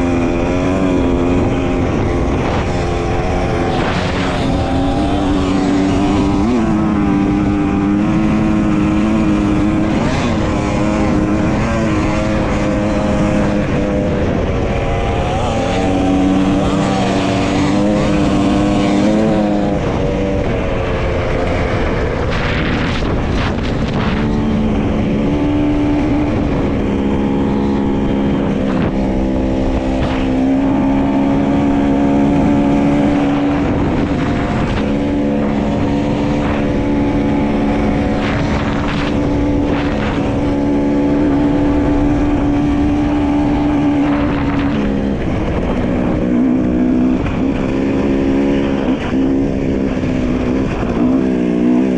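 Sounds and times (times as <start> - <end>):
dirt bike engine: 0.0 - 51.9
steady rushing noise: 0.0 - 51.9.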